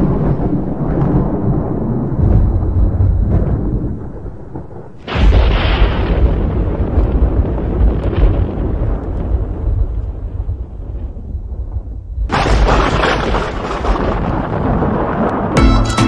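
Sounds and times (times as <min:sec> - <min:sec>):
deep rumble: 0:00.0 - 0:15.6
explosion-like boom: 0:00.0 - 0:15.9.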